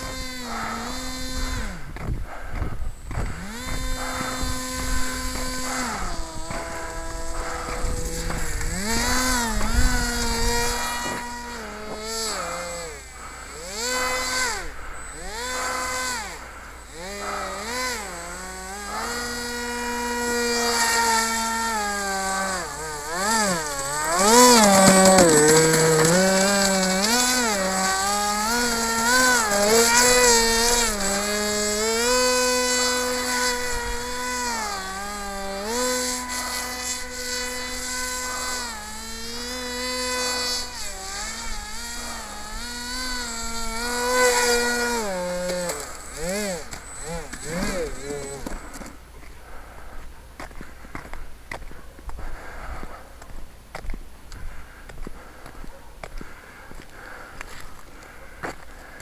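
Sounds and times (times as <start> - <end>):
propeller motor buzzing: 0.0 - 49.1.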